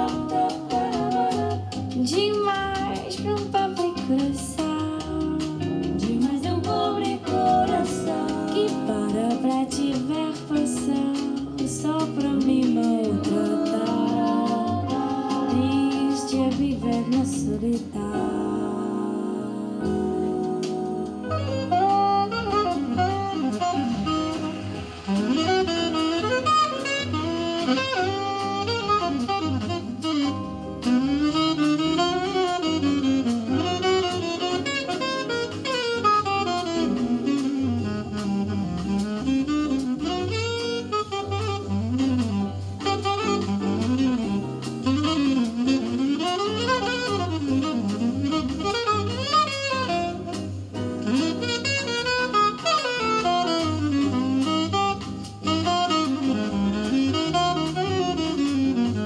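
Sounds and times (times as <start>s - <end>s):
bossa nova through loudspeaker: 0.0s - 59.0s.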